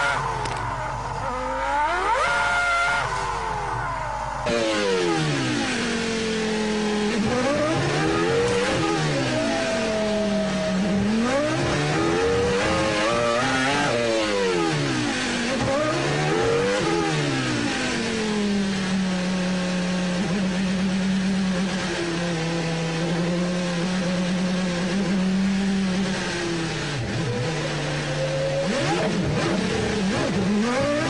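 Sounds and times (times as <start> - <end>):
racing car engine downshifting: 0.0 - 31.0.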